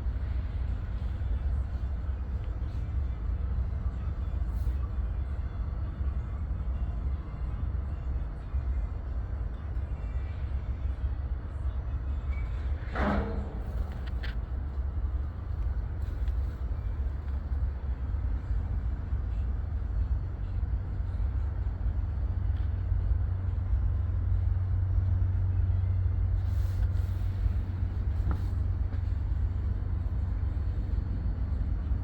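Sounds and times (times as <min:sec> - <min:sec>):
locomotives idling: 0:00.0 - 0:32.0.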